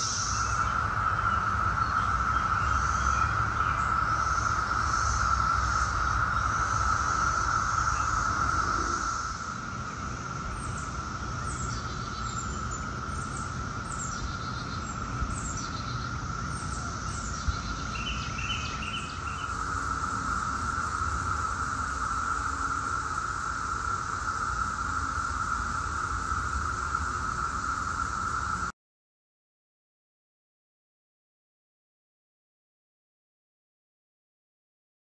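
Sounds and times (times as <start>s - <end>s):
cicada chorus droning: 0.0s - 28.7s.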